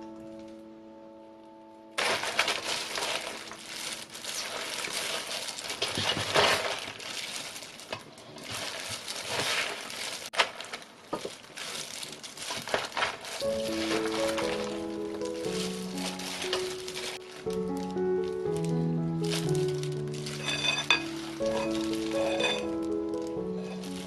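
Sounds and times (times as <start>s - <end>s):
cabbage leaves squishing by hand: 2.0s - 24.0s.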